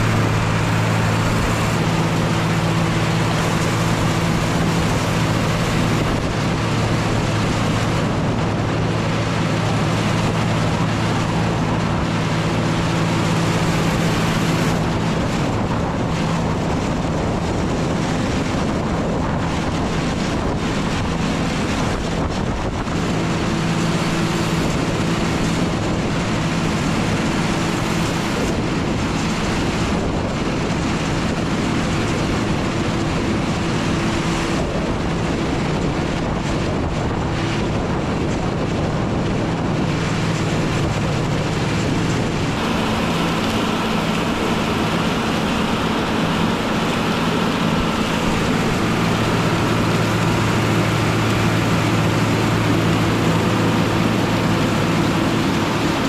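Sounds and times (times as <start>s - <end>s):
tractor engine running: 0.0s - 56.0s
wind noise on microphone: 0.0s - 56.0s.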